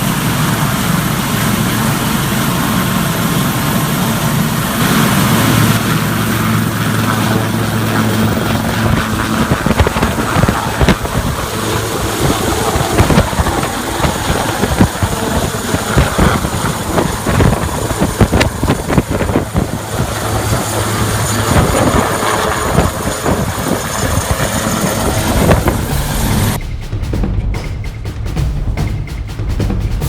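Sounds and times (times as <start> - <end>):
helicopter rotor and engine: 0.0 - 26.6
rough low rumble: 0.0 - 30.0.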